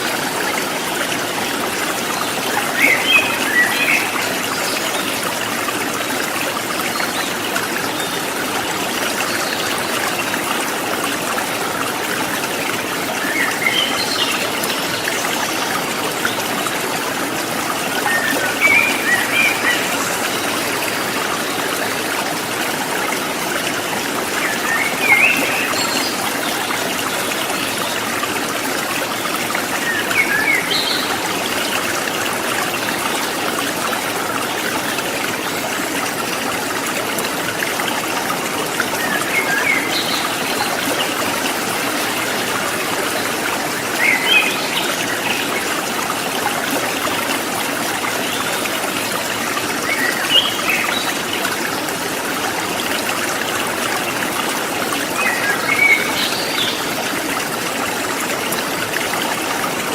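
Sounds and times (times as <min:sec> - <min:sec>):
river water over stones: 0:00.0 - 0:59.9.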